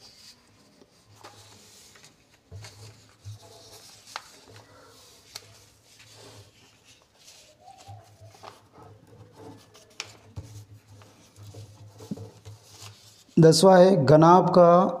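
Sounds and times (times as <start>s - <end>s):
paper rustling and sliding: 0.0s - 13.4s.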